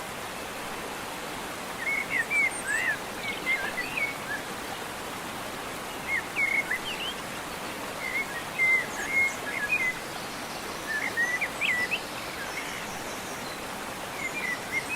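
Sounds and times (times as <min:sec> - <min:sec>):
river water rushing: 0:00.0 - 0:14.9.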